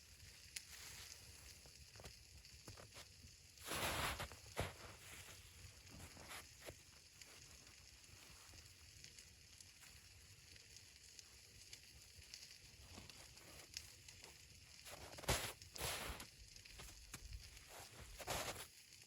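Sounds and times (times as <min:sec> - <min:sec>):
fire snap: 0:00.0 - 0:19.0
wood fire crackling: 0:00.0 - 0:19.0.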